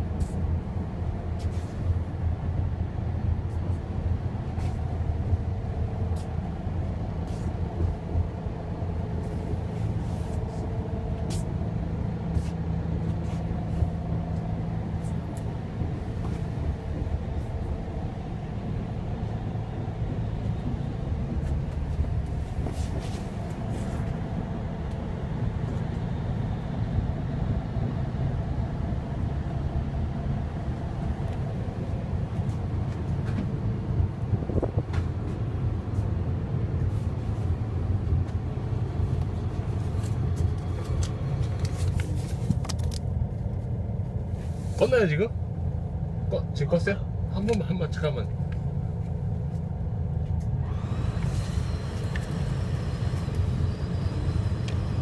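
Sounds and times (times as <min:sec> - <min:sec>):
air conditioning running: 0:00.0 - 0:55.0
diesel engine idling hum: 0:00.0 - 0:55.0.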